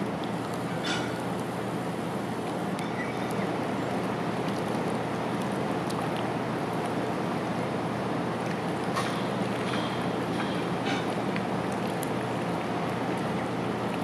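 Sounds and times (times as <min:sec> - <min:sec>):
ducks dabbling in shallow water: 0:00.0 - 0:14.0.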